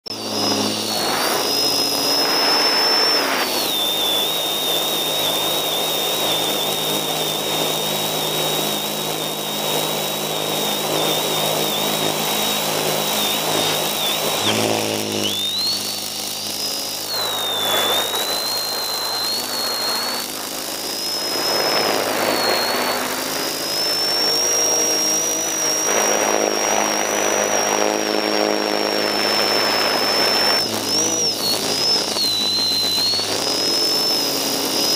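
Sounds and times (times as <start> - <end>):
drone motor whining: 0.0 - 34.9.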